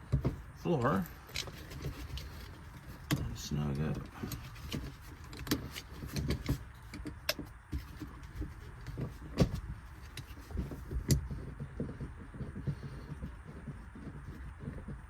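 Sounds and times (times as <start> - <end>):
seat belt buckle clicks and knocks: 0.0 - 15.0.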